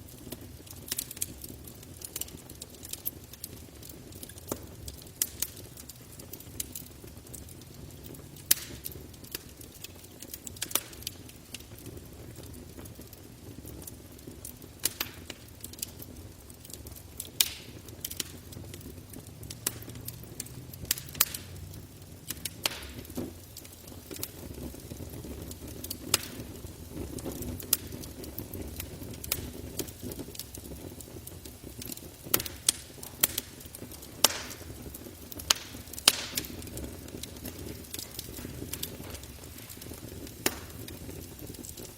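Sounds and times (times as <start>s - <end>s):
campfire crackling and popping: 0.0s - 41.9s
flames rumbling: 0.0s - 41.9s.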